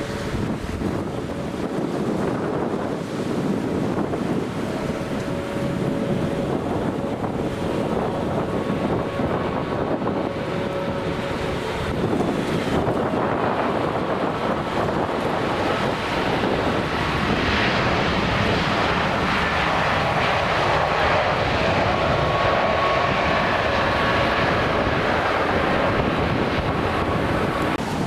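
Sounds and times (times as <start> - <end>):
jet airliner engines passing: 0.0 - 28.0
wind buffeting microphone: 0.0 - 28.0.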